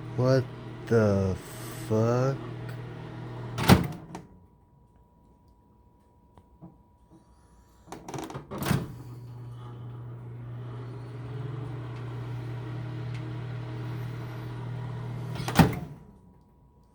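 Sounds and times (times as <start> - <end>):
microwave running hum: 0.0 - 7.5, 8.4 - 16.9.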